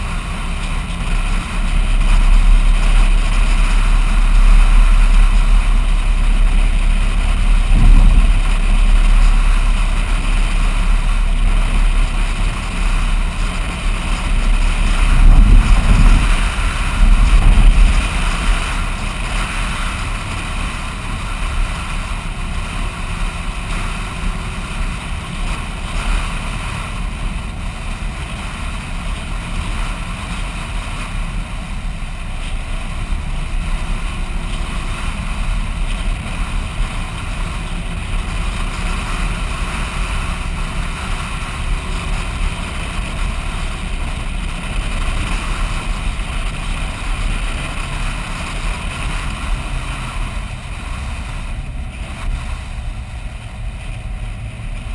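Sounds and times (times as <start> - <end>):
vehicle engine and tyre noise: 0.0 - 54.9
wind rush and buffeting: 0.0 - 54.9.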